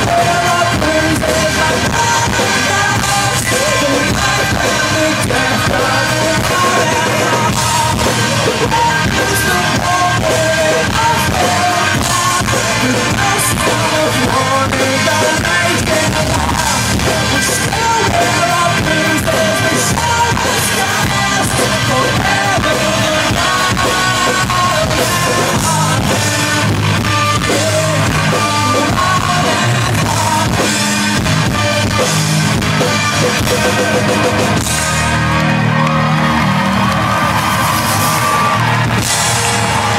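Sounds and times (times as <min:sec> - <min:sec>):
person singing: 0:00.0 - 0:35.7
drum kit: 0:00.0 - 0:39.9
guitars: 0:00.0 - 0:39.9.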